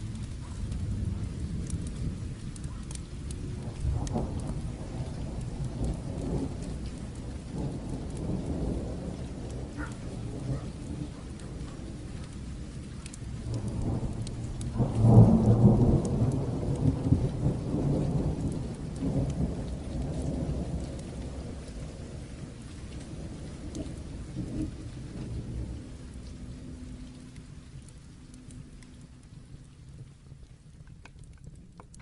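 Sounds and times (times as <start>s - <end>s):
rain patter: 0.0s - 32.0s
thunder rumbling: 0.0s - 32.0s.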